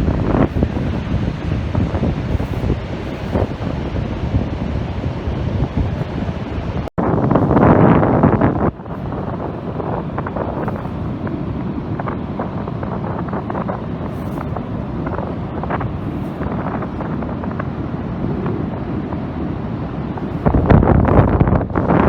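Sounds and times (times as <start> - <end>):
ocean surf on beach: 0.0 - 22.0
wind blowing across microphone: 0.0 - 22.0.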